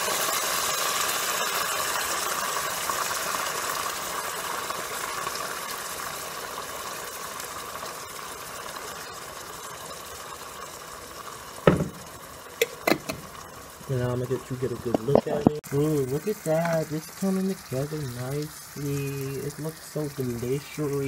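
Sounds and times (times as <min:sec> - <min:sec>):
meatballs sizzling in skillet: 0:00.0 - 0:21.0
sauce pouring into pan: 0:00.0 - 0:21.0.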